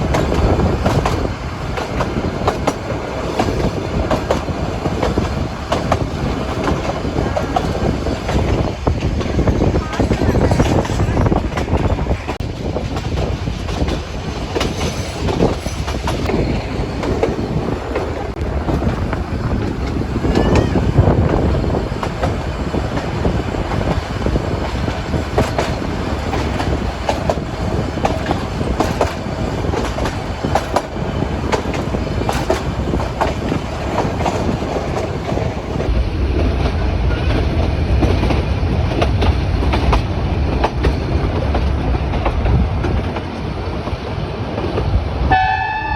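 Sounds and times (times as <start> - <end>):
train rumble: 0.0 - 45.9.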